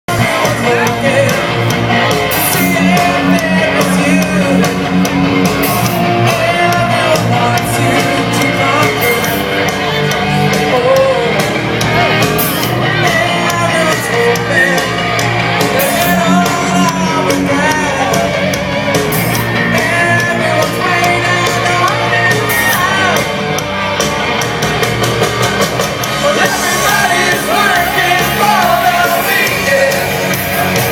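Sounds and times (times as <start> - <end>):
person singing: 0.1 - 23.6, 26.0 - 30.9
live rock band through pa: 0.1 - 30.9.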